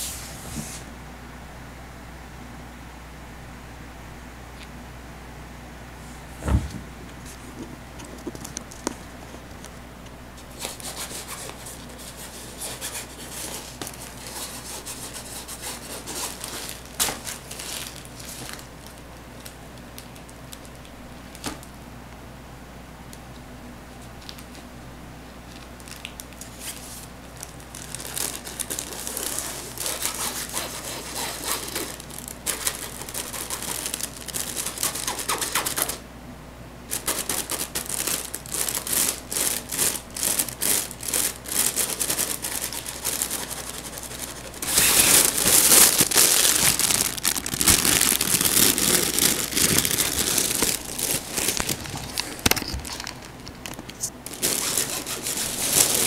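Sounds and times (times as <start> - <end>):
vinyl tunnel rustling: 6.0 - 21.8, 25.4 - 36.0, 36.9 - 56.0.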